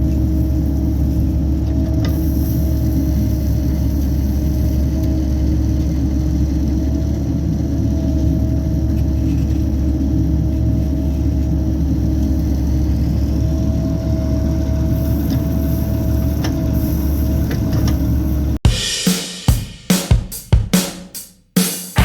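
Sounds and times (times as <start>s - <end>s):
diesel engine rumbling: 0.0s - 18.6s.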